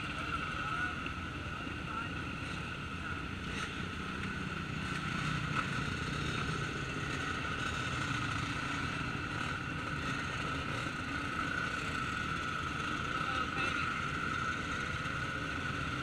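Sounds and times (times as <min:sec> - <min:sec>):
dirt bike engines idling: 0:00.0 - 0:16.0.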